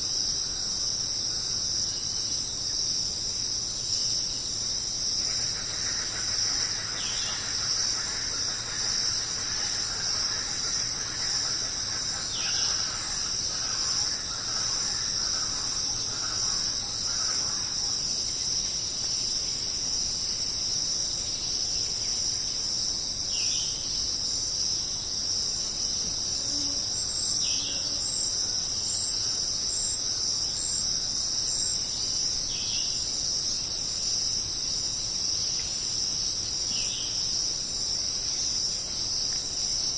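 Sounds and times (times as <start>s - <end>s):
insect chorus shrilling: 0.0s - 39.9s.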